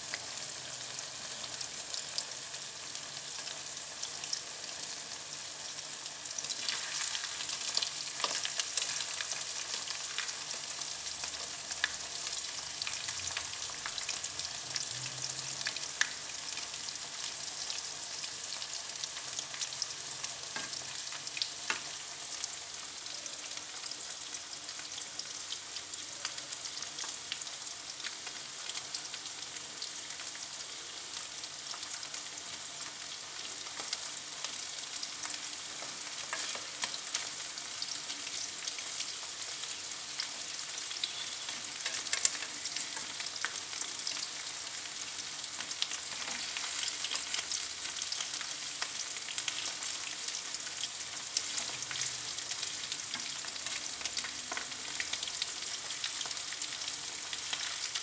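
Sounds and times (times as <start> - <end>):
shrimp sizzling in hot oil: 0.0 - 58.0.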